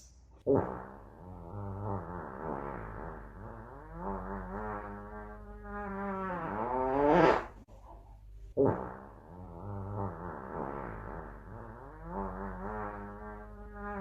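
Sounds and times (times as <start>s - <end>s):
buzzing fart noises: 0.4s - 7.7s, 8.5s - 14.0s.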